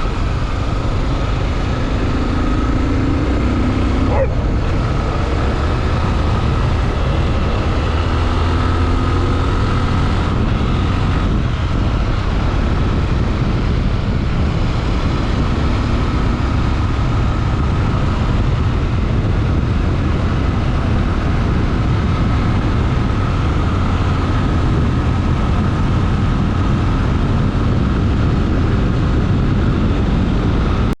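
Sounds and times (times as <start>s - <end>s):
constant rushing noise: 0.0s - 31.0s
motorcycle engine running: 0.0s - 31.0s.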